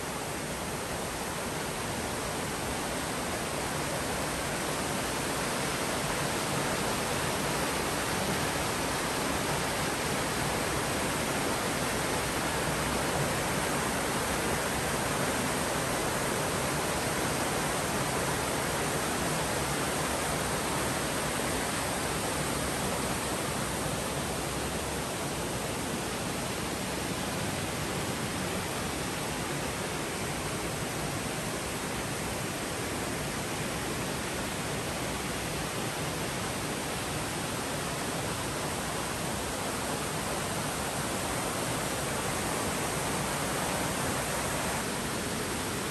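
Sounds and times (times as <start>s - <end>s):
stream cascading over rocks: 0.0s - 45.9s.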